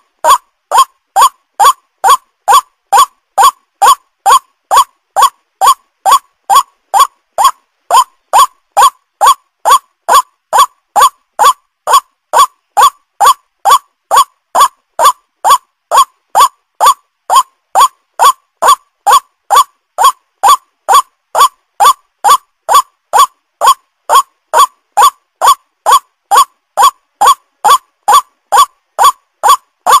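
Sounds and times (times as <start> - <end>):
waterhen calling: 0.0 - 30.0.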